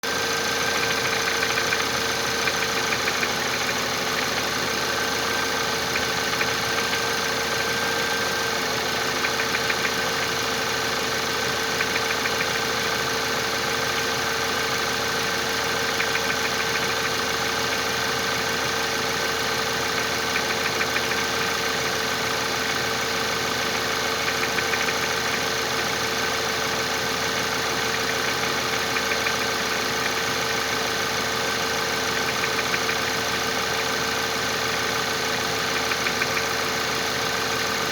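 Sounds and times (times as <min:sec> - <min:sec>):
car engine idling: 0:00.0 - 0:37.9
engine knocking: 0:00.0 - 0:37.9.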